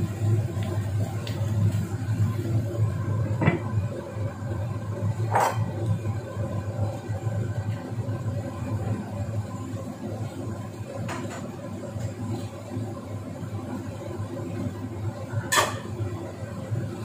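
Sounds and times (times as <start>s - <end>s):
vegetables sizzling in a wok: 0.0s - 17.0s.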